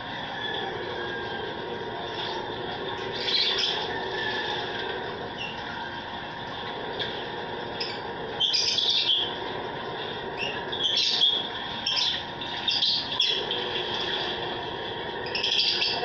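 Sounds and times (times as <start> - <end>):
small birds chirping and squawking: 0.0 - 16.0
steady background noise: 0.0 - 16.0.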